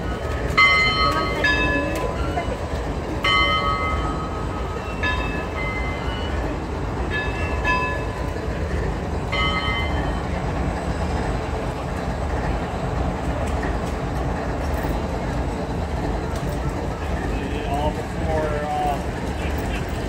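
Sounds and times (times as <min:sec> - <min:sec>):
locomotives idling: 0:00.0 - 0:20.0.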